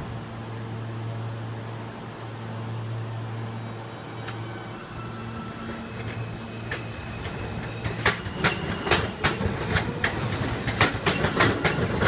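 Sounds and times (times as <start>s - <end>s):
subway train hum and rumble: 0.0s - 12.0s.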